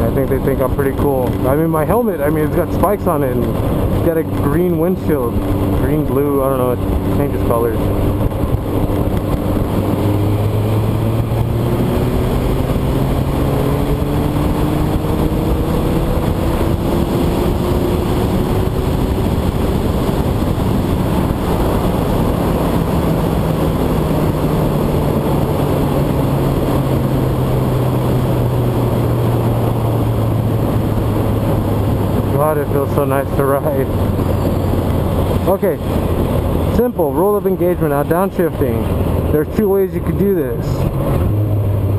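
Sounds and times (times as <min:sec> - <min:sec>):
motorcycle engine running: 0:00.0 - 0:41.9
wind rush on microphone: 0:00.0 - 0:41.9.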